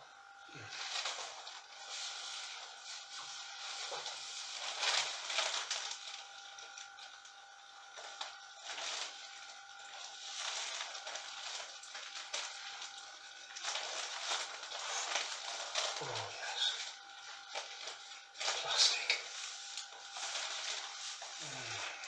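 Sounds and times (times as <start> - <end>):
plastic raincoat rustling: 0.7 - 6.4, 7.9 - 22.0.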